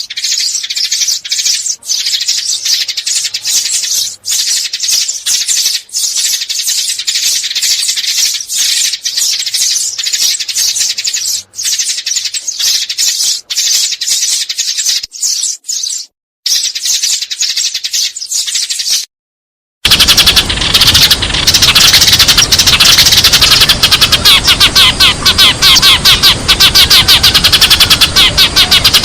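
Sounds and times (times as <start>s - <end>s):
sparrows chirping: 0.0s - 19.1s, 19.9s - 29.0s.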